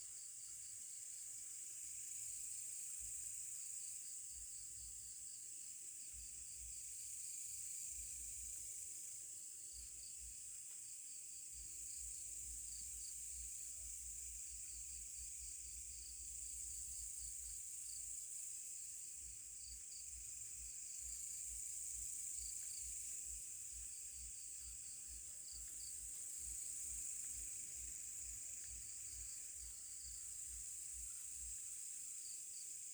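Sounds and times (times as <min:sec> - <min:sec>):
insect chirps: 0:00.0 - 0:32.9.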